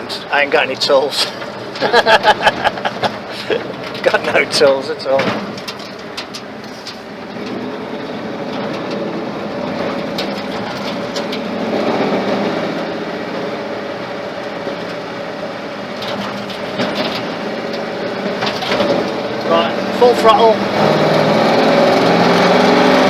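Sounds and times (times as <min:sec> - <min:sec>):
rattles and clicks: 0:00.0 - 0:21.0
truck engine running under load: 0:00.0 - 0:23.0.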